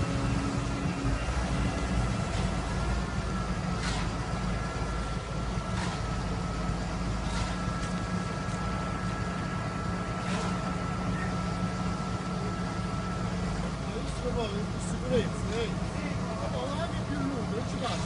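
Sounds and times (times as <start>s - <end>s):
thin hydraulic whine: 0.0s - 18.0s
truck engine rumbling: 0.0s - 18.0s.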